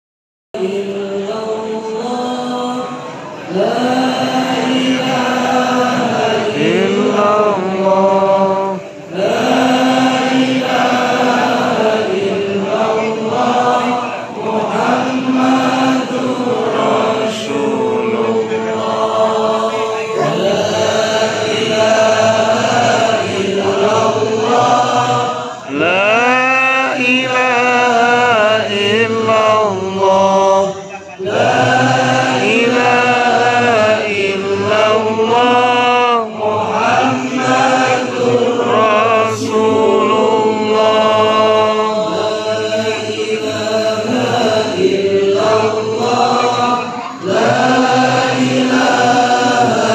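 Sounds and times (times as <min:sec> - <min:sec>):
men chanting in unison: 0:00.6 - 0:49.9.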